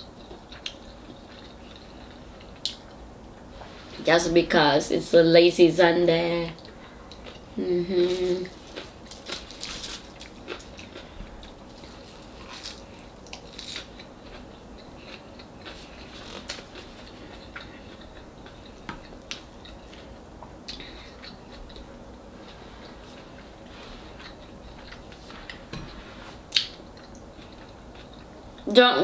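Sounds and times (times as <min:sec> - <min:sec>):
person chewing: 0:00.0 - 0:03.0, 0:06.6 - 0:07.6, 0:08.4 - 0:28.6.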